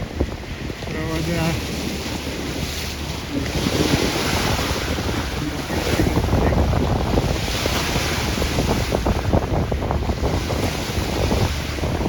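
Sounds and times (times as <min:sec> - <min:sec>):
strong gusting wind: 0:00.0 - 0:12.0
waves washing against shore: 0:00.0 - 0:12.0.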